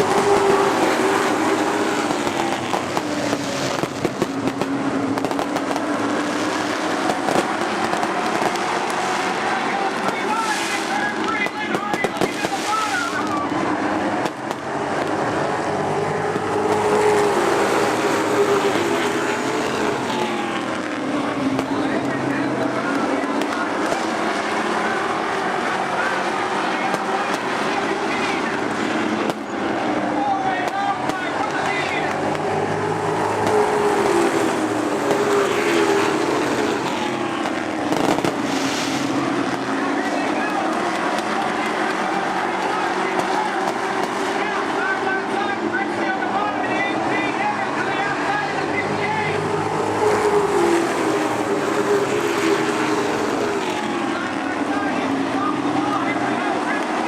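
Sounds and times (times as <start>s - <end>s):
racing truck engines droning: 0.0s - 57.0s.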